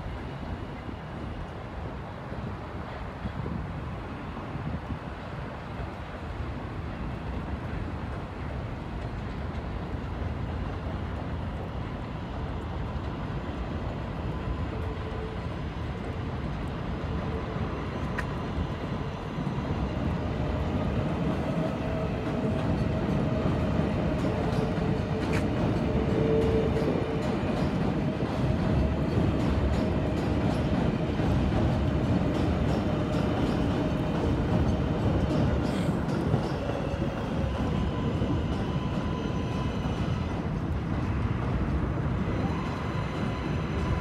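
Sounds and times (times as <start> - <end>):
train rumbling on elevated tracks: 0.0 - 44.0.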